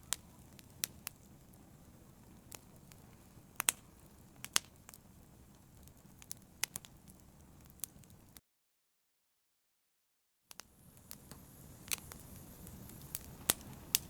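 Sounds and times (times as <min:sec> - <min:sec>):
fire crackling and popping: 0:00.0 - 0:08.4, 0:10.5 - 0:14.0
low hiss of fire: 0:00.0 - 0:08.4, 0:10.5 - 0:14.0.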